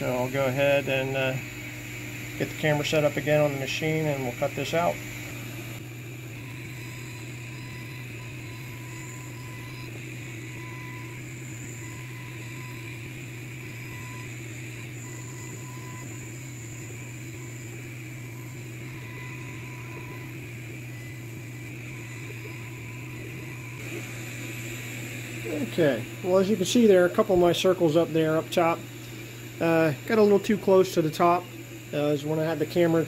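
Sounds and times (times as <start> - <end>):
laser engraver machine hum: 0.0 - 33.0
motor whine: 0.0 - 33.0.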